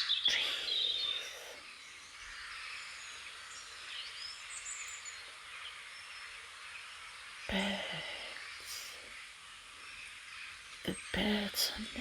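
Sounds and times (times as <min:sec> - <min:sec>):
faint bird chirps: 0:00.0 - 0:12.0
forest ambience hiss: 0:00.0 - 0:12.0.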